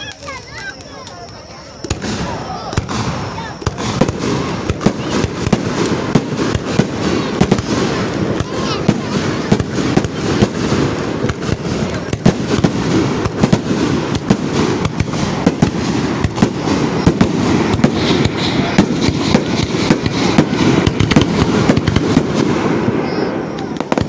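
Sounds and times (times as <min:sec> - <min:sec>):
fireworks crackling: 0:00.0 - 0:24.0
fireworks shells bursting: 0:00.0 - 0:24.0.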